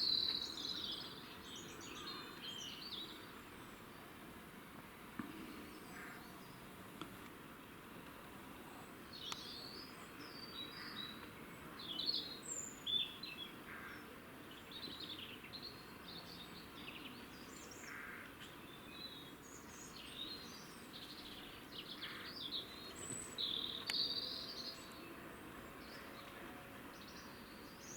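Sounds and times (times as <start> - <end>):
background hiss: 0.0 - 27.9.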